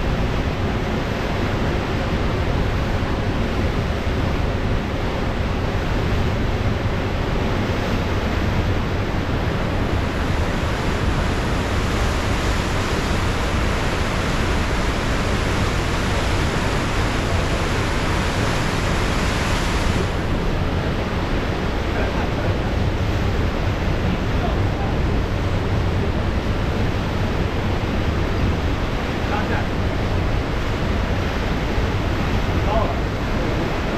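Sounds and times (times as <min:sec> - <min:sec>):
ocean surf rushing: 0:00.0 - 0:33.9.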